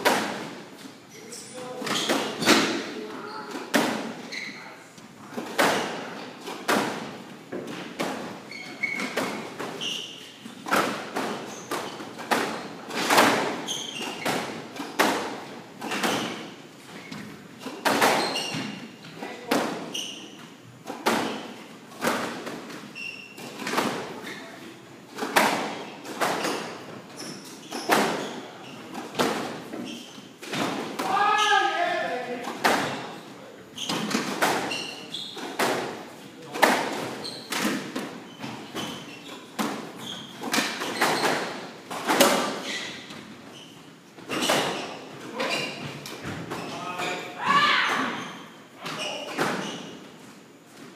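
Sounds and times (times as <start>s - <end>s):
squash ball hitting rackets and walls: 0.0s - 4.4s, 5.2s - 50.9s
sneakers squeaking on hardwood: 0.0s - 50.9s.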